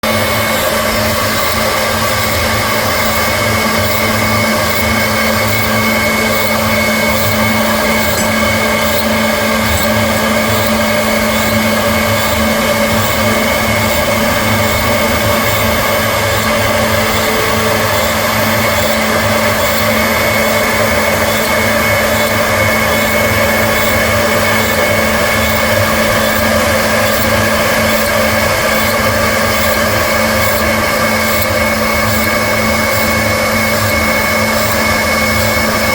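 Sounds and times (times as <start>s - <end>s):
cnc machine running: 0.0s - 35.9s
spindle motor tones: 0.0s - 35.9s.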